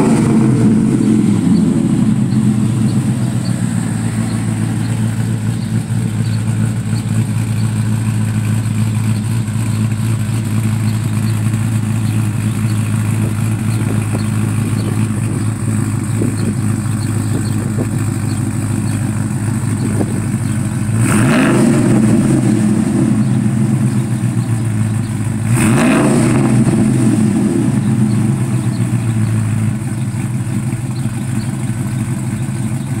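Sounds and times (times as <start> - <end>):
engine revving: 0.0 - 30.0
engine idling: 0.0 - 33.0.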